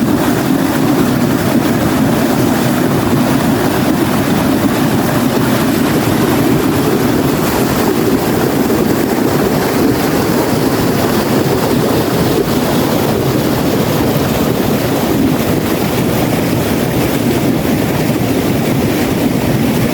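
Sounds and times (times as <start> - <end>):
stream water rushing: 0.0 - 19.9.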